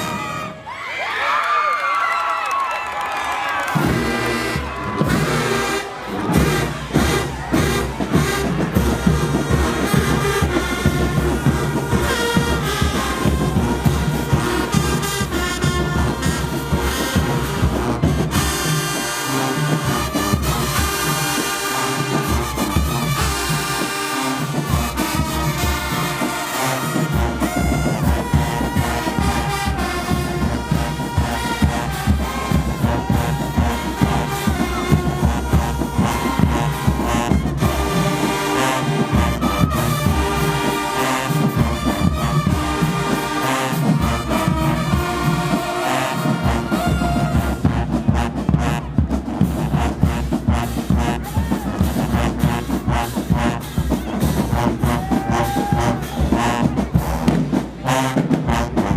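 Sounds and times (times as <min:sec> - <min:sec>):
drumline beat: 0:03.2 - 0:58.9
brass section sustained chords: 0:03.8 - 0:53.9.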